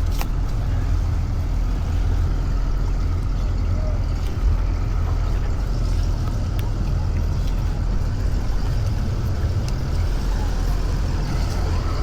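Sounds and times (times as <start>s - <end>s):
boat motor rumbling: 0.0s - 12.0s
rushing wind or water: 0.0s - 12.0s.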